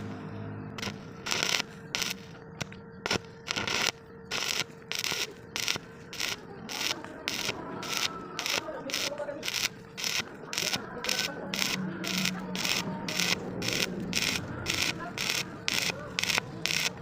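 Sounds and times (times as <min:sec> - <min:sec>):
rhythmic rasping strokes: 0:00.0 - 0:17.0.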